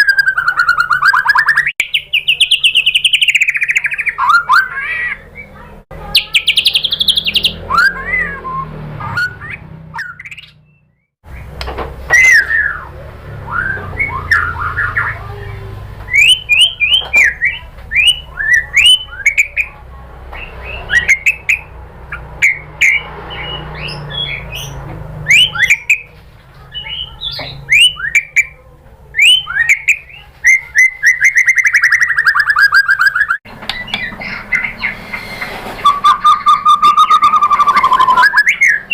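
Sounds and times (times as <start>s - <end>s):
bird singing whistled notes: 0.0s - 11.5s, 12.1s - 15.4s, 16.1s - 19.8s, 20.4s - 26.1s, 26.8s - 28.6s, 29.2s - 38.9s.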